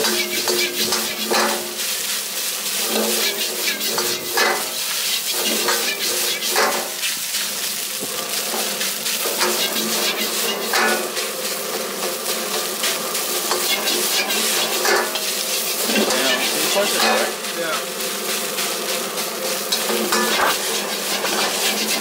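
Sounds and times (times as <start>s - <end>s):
metal utensils scraping a wok: 0.0s - 17.5s, 18.3s - 22.0s
rice sizzling: 0.0s - 22.0s.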